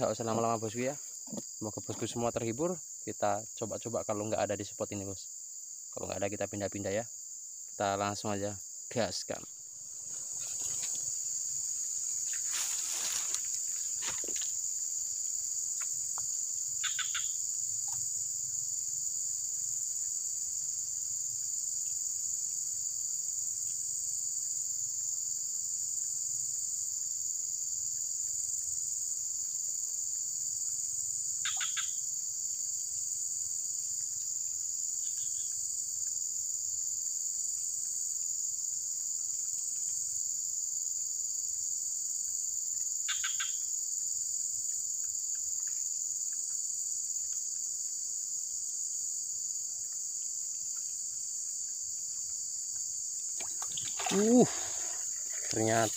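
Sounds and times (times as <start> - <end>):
insects chorus: 0.0 - 55.9.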